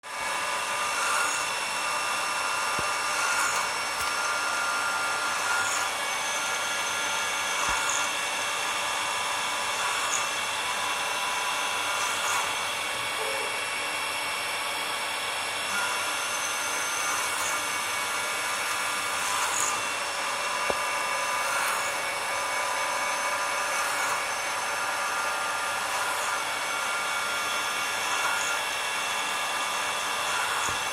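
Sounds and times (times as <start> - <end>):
machine motor whine: 0.1 - 30.9.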